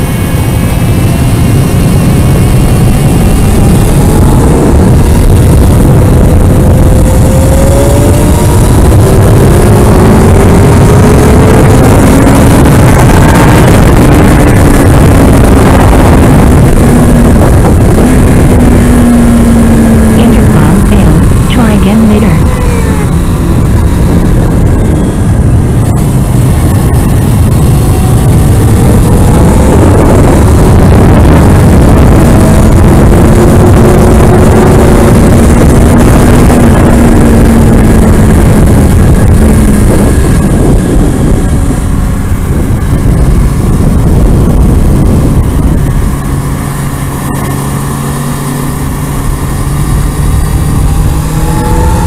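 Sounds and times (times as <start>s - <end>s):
motorcycle engine running hard: 0.0s - 52.0s
wind rush: 0.0s - 52.0s.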